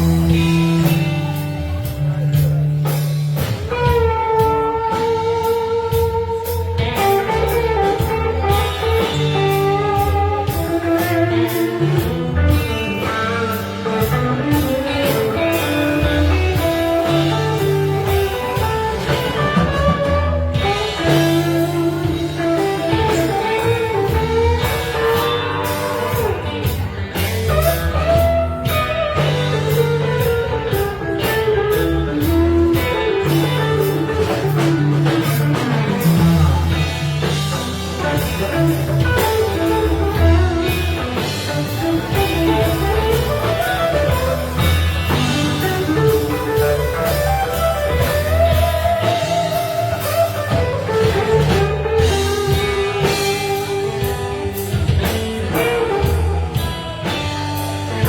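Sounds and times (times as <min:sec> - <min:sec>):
electric guitar: 0:00.0 - 0:58.0
live blues-rock band playing: 0:00.0 - 0:58.0.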